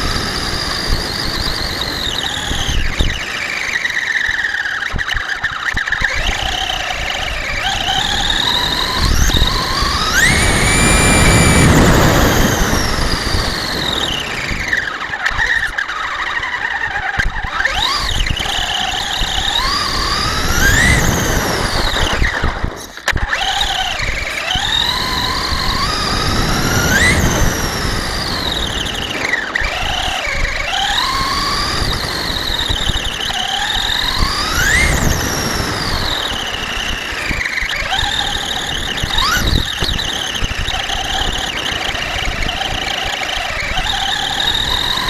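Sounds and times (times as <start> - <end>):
toy truck motor whining: 0.0 - 45.0.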